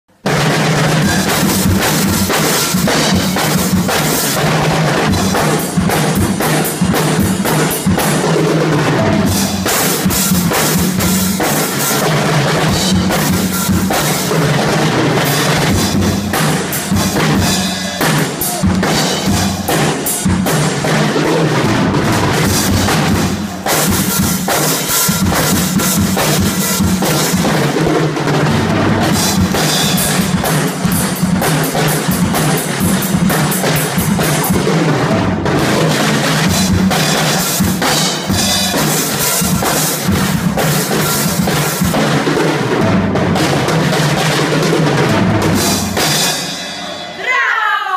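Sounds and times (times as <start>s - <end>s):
music with rapid drumming: 0.0s - 47.4s.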